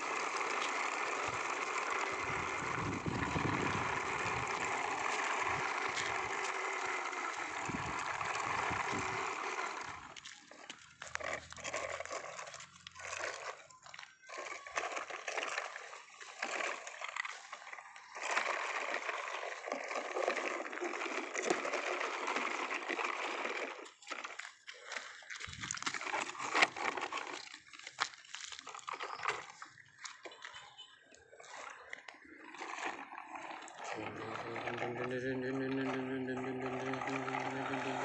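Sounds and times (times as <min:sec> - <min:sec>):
crunching on gravel: 0:00.0 - 0:38.0.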